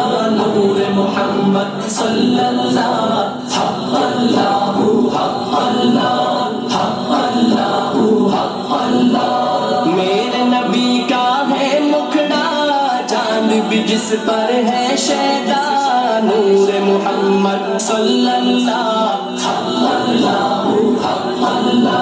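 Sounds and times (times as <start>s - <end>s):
voices singing a cappella: 0.0s - 22.0s.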